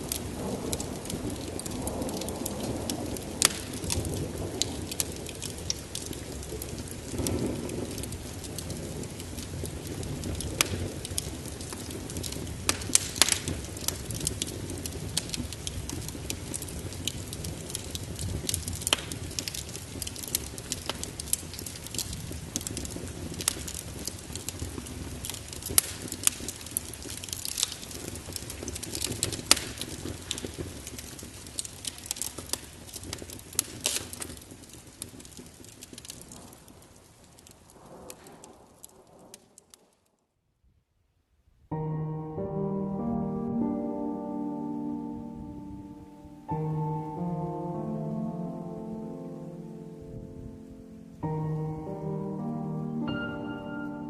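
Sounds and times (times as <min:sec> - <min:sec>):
wood fire crackling: 0:00.0 - 0:40.1, 0:41.7 - 0:54.0
steady rain: 0:00.0 - 0:40.3, 0:41.4 - 0:54.0.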